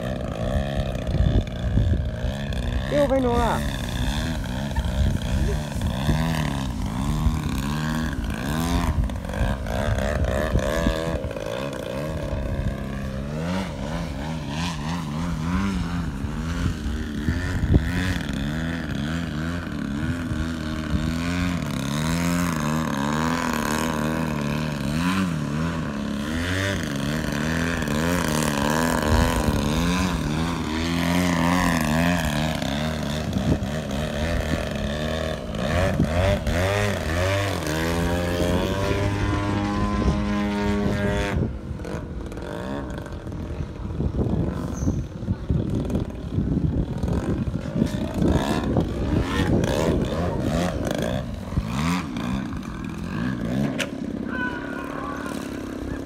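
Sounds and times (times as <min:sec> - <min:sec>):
model airplane engine revving: 0:00.0 - 0:56.0.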